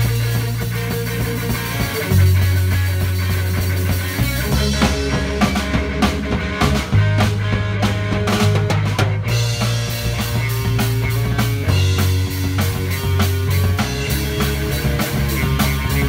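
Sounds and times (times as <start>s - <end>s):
drum kit snare and cymbals: 0.0s - 16.0s
electric guitars low notes: 0.0s - 16.0s.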